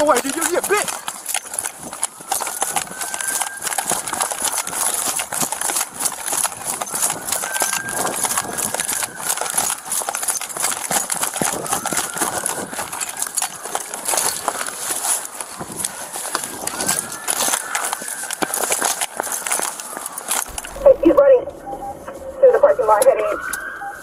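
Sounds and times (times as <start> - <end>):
camera jostling against gear: 0.0 - 20.8
running footsteps: 0.0 - 24.0.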